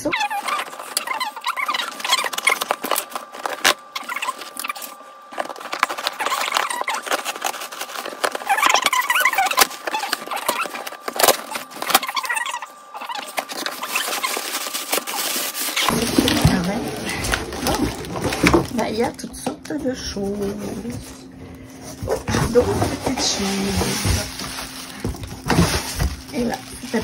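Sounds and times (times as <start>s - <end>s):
plastic crinkling and rustling: 0.2s - 27.0s.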